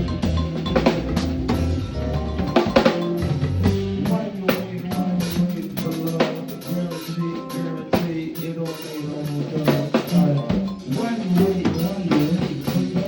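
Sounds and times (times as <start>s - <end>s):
instrumental music with drum beat: 0.0s - 13.0s.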